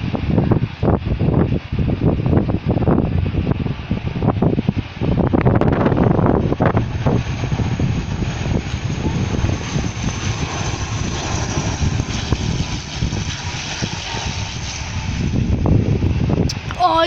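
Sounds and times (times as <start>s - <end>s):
airplane engines rumbling: 0.0s - 17.0s
wind on microphone: 0.0s - 17.0s.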